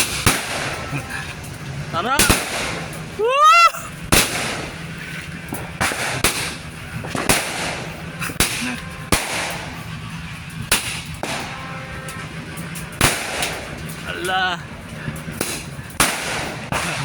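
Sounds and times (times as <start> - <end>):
rising firework whistle: 0.0 - 17.0
sharp firework bangs: 0.0 - 17.0.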